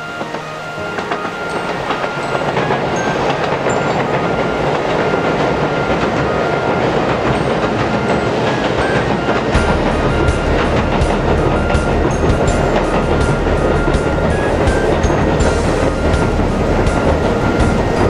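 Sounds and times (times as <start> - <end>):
diesel train running on rails: 0.0 - 18.0
wheels clicking over track: 0.0 - 18.0.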